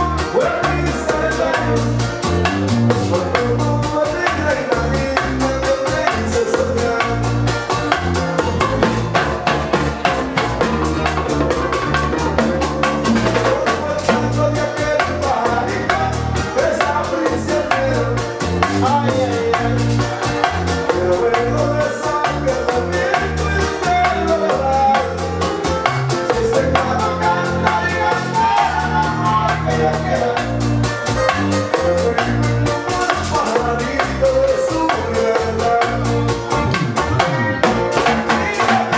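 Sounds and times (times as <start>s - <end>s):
man singing: 0.0s - 9.2s, 11.8s - 38.9s
drums and hand percussion: 0.0s - 38.9s
guitar: 0.0s - 38.9s
keyboard: 0.0s - 38.9s.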